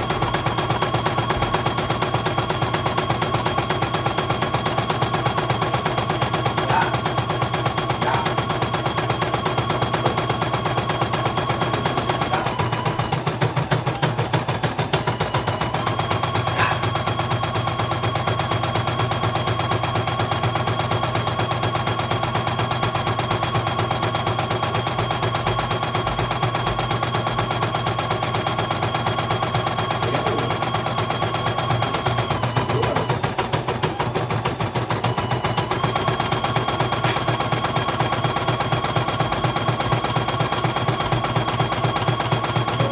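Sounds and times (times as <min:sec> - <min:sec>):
high machine whine: 0:00.0 - 0:42.9.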